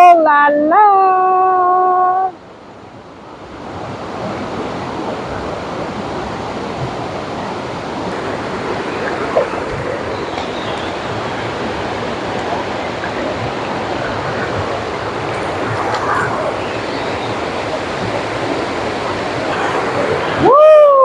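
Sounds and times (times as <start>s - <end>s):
waterfall rushing: 4.0s - 21.0s.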